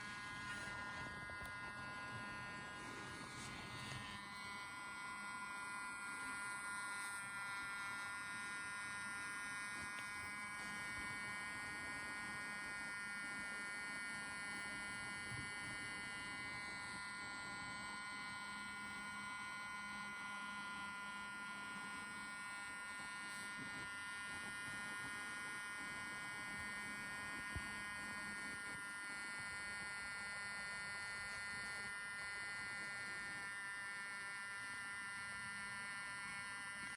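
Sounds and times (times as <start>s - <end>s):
high electrical buzzing whine: 0.0s - 36.9s.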